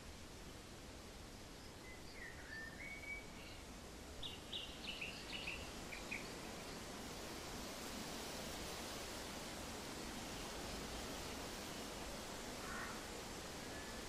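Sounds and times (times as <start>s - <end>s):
soft ambient hiss: 0.0s - 14.0s.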